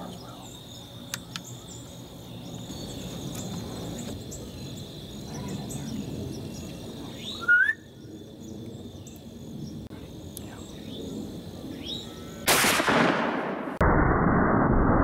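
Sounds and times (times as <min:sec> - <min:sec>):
high insect drone: 0:00.0 - 0:12.5.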